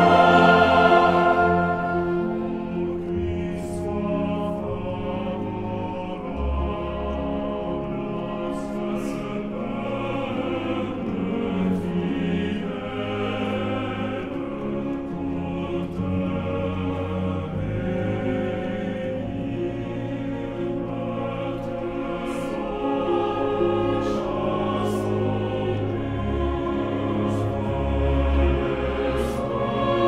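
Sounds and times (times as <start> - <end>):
background music with long held notes: 0.0 - 30.0.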